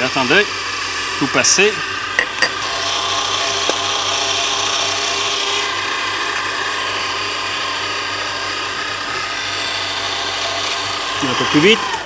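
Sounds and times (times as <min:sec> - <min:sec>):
kitchen machine motor hum and whine: 0:00.0 - 0:12.0.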